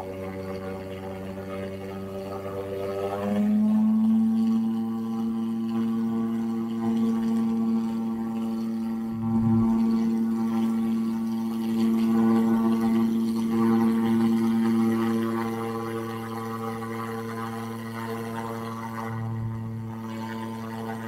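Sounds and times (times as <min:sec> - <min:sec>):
low droning hum: 0:00.0 - 0:21.0.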